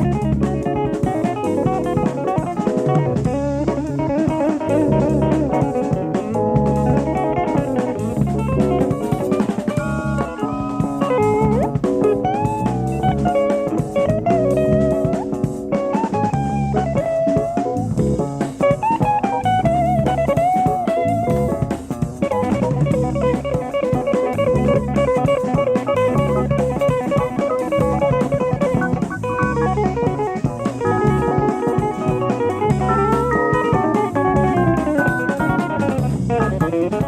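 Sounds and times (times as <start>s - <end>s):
electric guitar solo: 0.0s - 17.8s, 22.4s - 37.0s
drum kit: 0.0s - 37.0s
jazz-fusion band playing: 0.0s - 37.0s.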